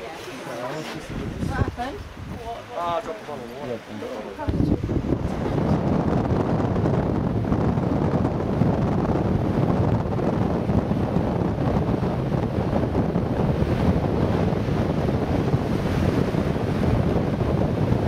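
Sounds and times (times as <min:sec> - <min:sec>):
wind buffeting microphone: 0:00.9 - 0:18.0.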